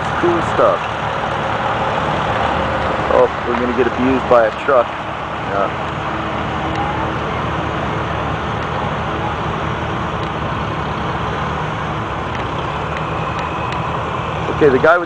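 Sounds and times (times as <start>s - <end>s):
heavy vehicle engines running: 0.0s - 15.0s
road and traffic noise: 0.0s - 15.0s.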